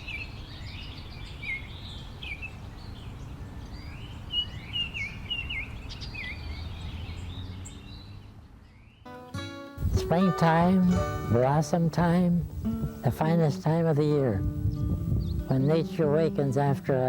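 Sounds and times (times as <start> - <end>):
songbirds singing: 0.0 - 9.4, 10.0 - 17.0.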